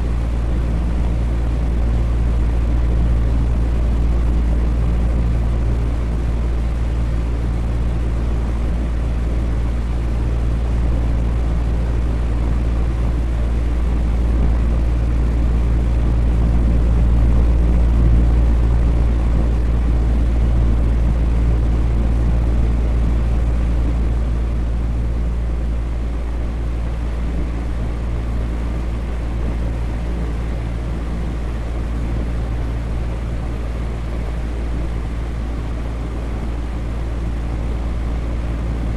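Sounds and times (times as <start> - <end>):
electric fan humming: 0.0 - 38.9.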